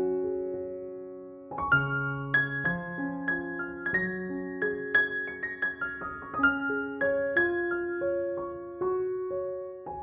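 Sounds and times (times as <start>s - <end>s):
gentle piano notes: 0.0s - 10.0s.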